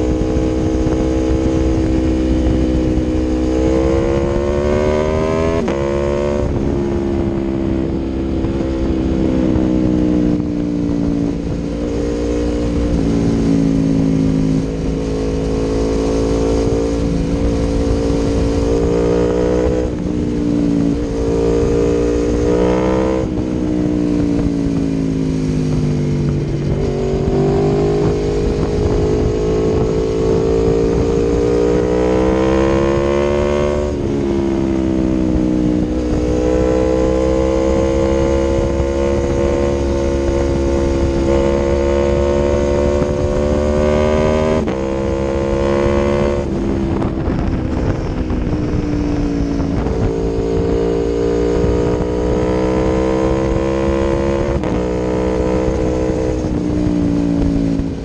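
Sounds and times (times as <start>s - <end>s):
motorcycle engine under throttle: 0.0s - 58.0s.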